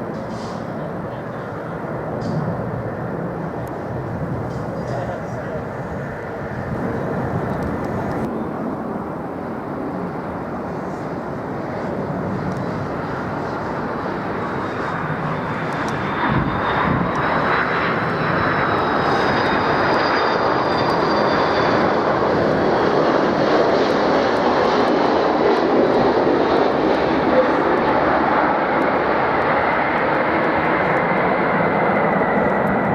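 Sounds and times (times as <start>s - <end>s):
jet engine rush: 0.0s - 32.9s.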